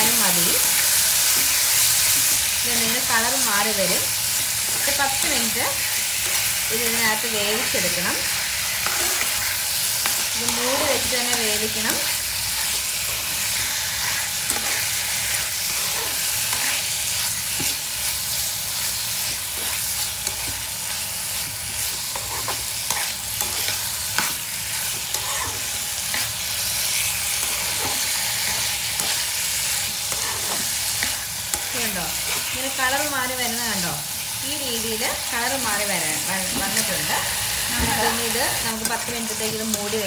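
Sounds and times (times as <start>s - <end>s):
chicken sizzling in frying pan: 0.0s - 40.0s.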